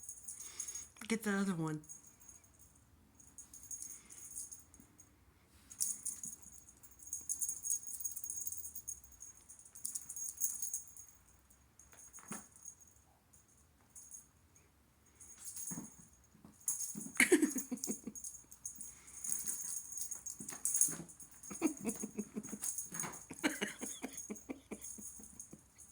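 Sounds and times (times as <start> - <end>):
toy jingling rattle: 0.0 - 1.0, 1.8 - 4.8, 5.8 - 13.0, 15.2 - 25.9.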